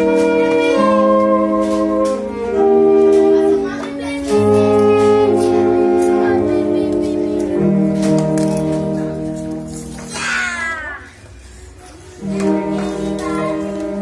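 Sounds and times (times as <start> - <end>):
saxophones playing a slow hymn: 0.0 - 9.7, 12.2 - 14.0.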